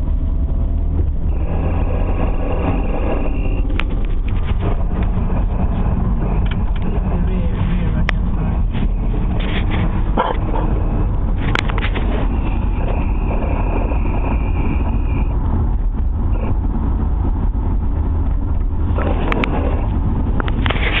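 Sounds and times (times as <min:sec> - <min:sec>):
car road and drivetrain rumble: 0:00.0 - 0:21.0.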